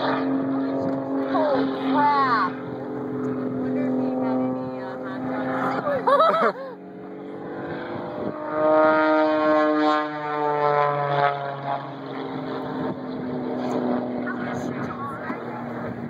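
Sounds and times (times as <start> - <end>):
propeller airplane passing by: 0.0 - 16.0.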